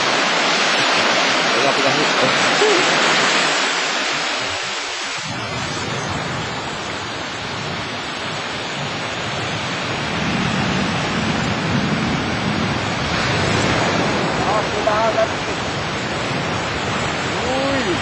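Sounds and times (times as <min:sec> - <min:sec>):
sea surf washing onto beach: 0:00.0 - 0:18.0.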